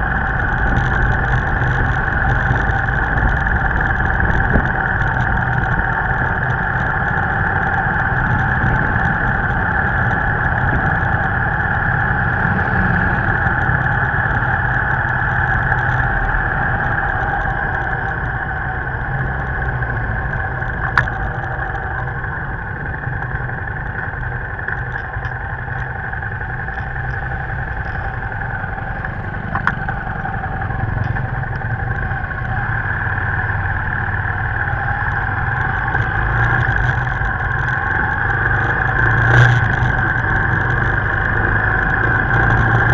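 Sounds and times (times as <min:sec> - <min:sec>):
low road rumble: 0:00.0 - 0:42.9
motorbike engine running: 0:00.0 - 0:42.9.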